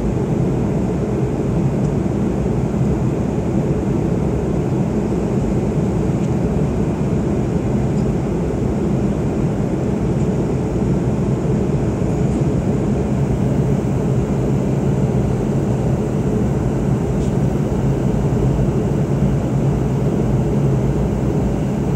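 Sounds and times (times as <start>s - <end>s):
airliner cabin engine rumble: 0.0s - 21.9s.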